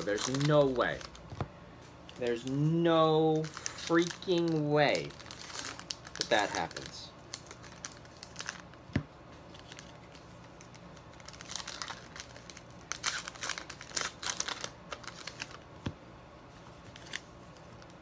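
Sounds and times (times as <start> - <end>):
wrapper crinkling and tearing: 0.0 - 1.3, 2.1 - 8.8, 9.5 - 15.6, 16.8 - 18.0.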